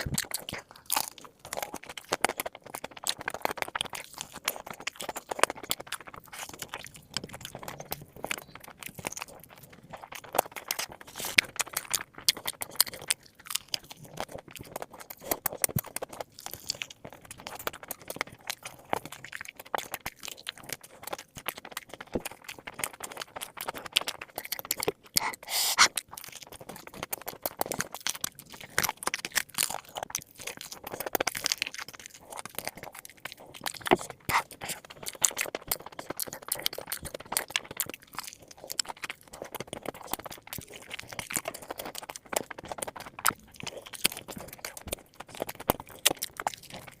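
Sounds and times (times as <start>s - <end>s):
crunching and chewing food: 0.0s - 47.0s
wet mouth sounds: 0.0s - 47.0s.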